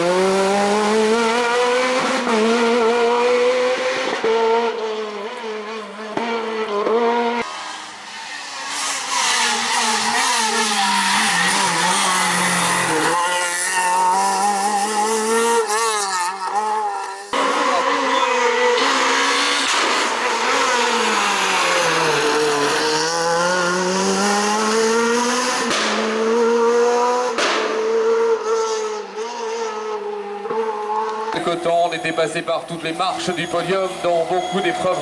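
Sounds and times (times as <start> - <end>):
rally car engine revving: 0.0 - 35.0
tyre and road noise: 0.0 - 35.0.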